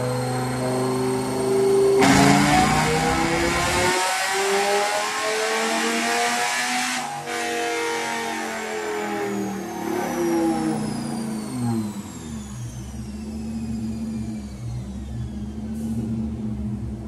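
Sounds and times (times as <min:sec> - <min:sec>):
car engine revving on dyno: 0:00.0 - 0:17.0.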